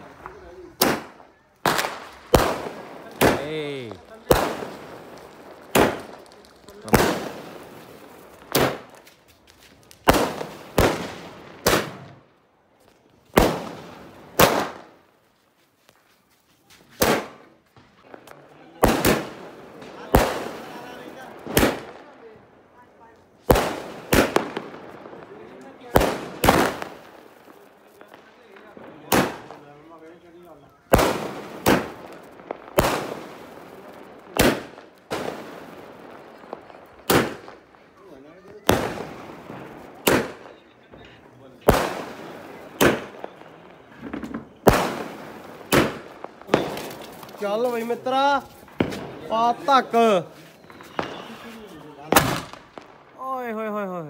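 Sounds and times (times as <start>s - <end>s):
firework bangs: 0.0s - 15.2s, 16.7s - 53.7s.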